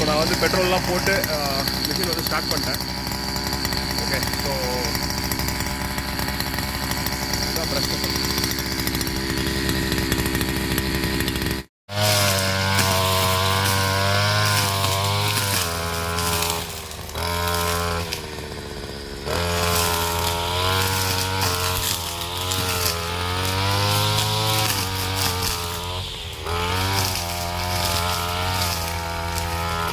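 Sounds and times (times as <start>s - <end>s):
brush cutter engine at high revs: 0.0s - 29.9s.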